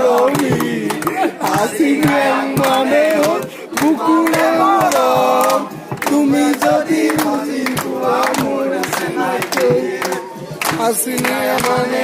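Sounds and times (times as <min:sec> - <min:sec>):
hand claps: 0:00.0 - 0:12.0
men singing in chorus: 0:00.0 - 0:12.0.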